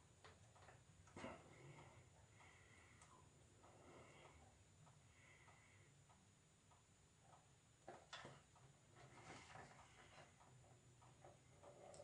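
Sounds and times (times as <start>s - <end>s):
faint clicks and taps handling wires: 0.1s - 12.0s.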